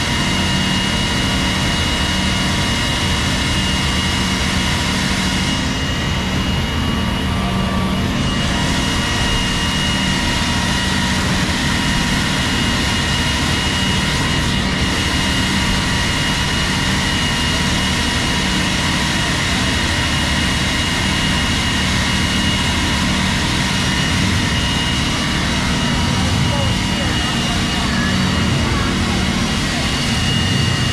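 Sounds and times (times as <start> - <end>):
mechanical drone with high whine: 0.0 - 30.9.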